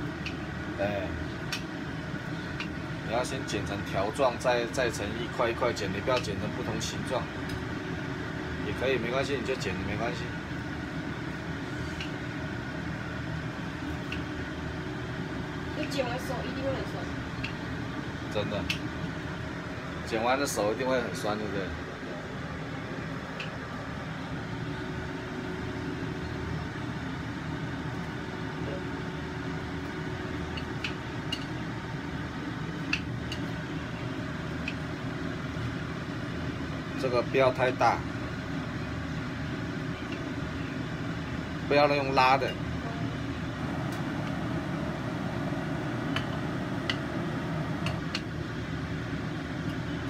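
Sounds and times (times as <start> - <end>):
kitchen fan humming: 0.0 - 50.0.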